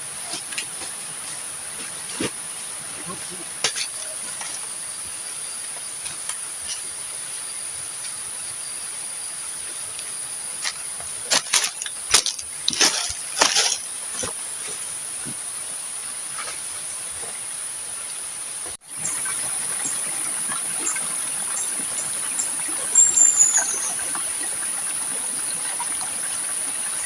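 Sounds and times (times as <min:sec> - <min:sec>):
insect chorus: 0:00.0 - 0:27.0.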